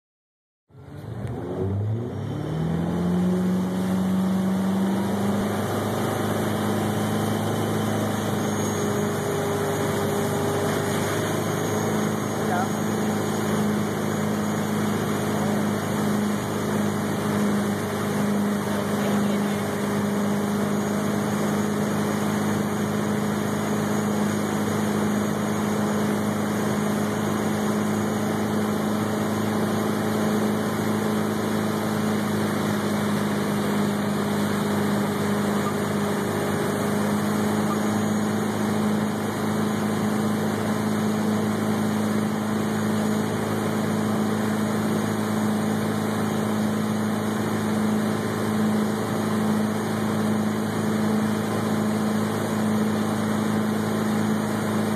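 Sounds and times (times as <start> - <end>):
boat engine droning: 0.7 - 54.9.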